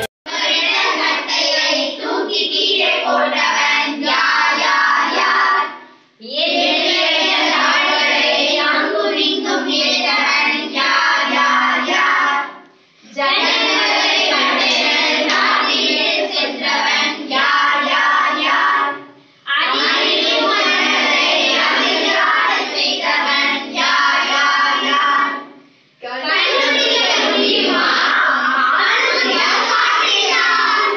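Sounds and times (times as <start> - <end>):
children singing in unison: 0.0 - 30.9.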